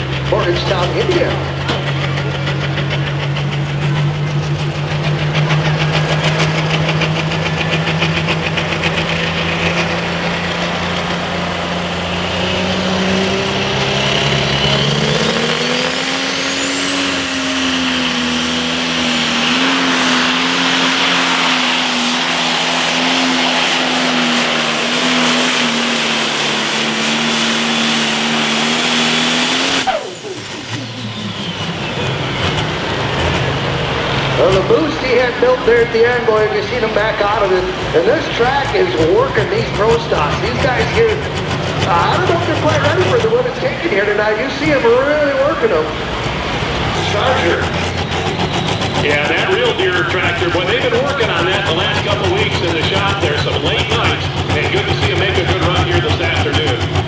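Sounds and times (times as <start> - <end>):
diesel tractor engine under load: 0.0 - 57.0
turbo whine: 0.0 - 57.0.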